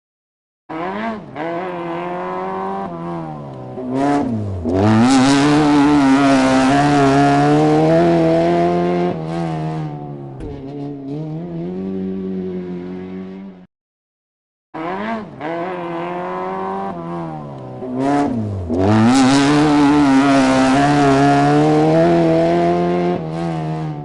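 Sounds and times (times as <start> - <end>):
racing motorcycle engine revving: 0.7 - 13.7, 14.8 - 24.0.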